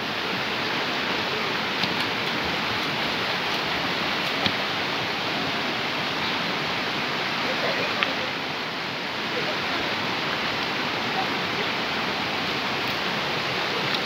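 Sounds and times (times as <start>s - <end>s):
people swimming splashes: 0.0s - 14.0s
river water rushing over stones: 0.0s - 14.0s.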